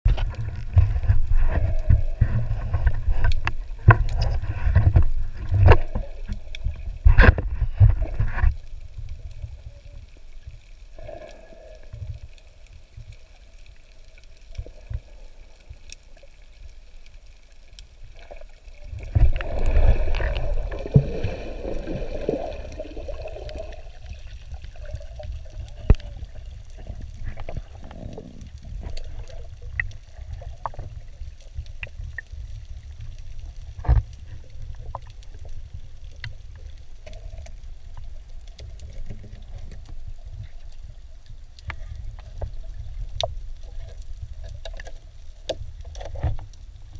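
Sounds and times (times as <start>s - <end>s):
low underwater rumble: 0.0s - 46.9s
water sloshing and bubbling: 0.0s - 46.9s.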